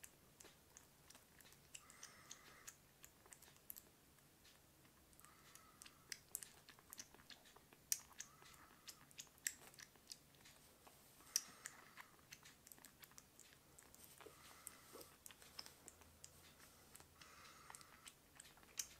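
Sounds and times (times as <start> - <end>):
kitten suckling wet clicks: 0.0 - 18.9.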